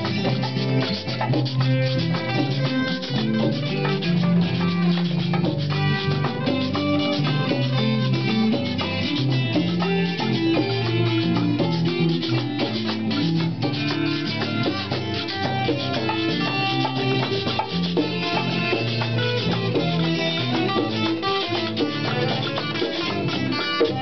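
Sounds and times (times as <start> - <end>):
acoustic guitars strummed and plucked: 0.0 - 24.0
hand drum beat: 0.0 - 24.0.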